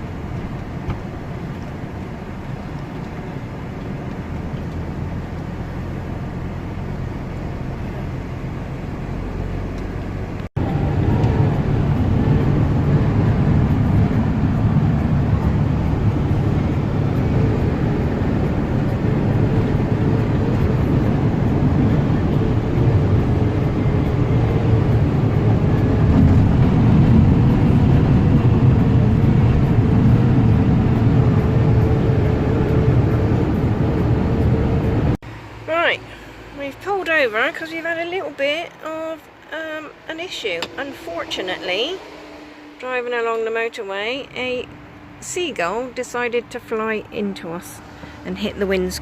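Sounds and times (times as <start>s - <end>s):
engine and tyre rumble: 0.0s - 49.0s.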